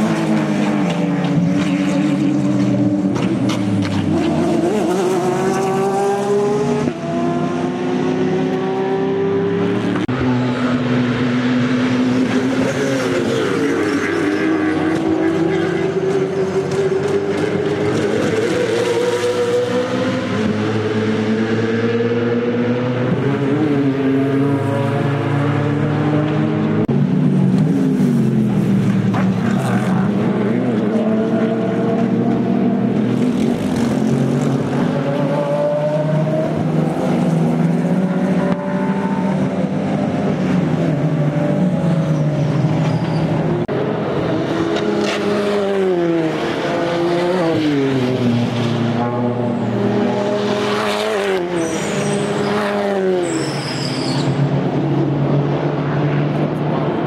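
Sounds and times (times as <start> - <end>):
race cars passing: 0.0 - 57.0.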